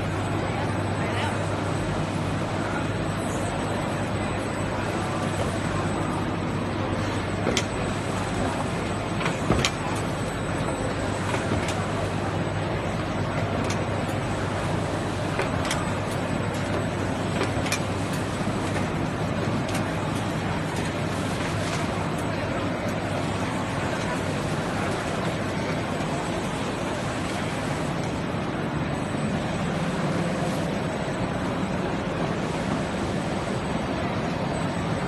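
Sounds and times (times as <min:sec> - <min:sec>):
machine drone of belts and rollers: 0:00.0 - 0:35.0.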